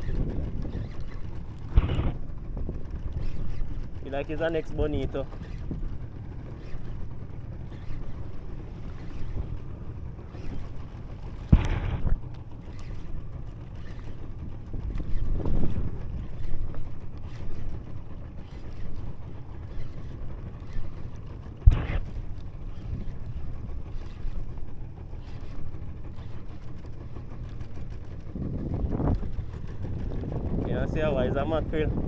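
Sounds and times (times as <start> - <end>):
steady low rumble: 0.0 - 32.0
wind buffeting microphone: 0.0 - 32.0.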